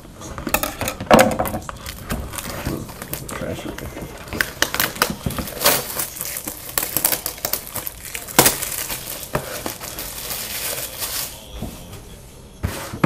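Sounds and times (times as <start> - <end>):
plastic wrapping crinkling: 1.4 - 12.0.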